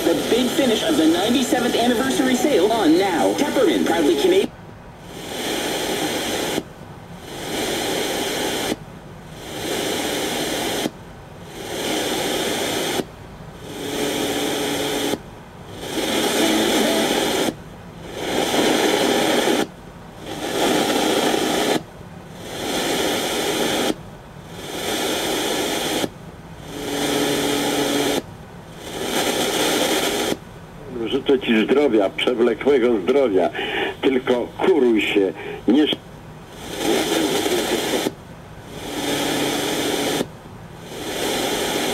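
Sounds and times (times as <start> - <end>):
radio static hiss: 0.0 - 41.9.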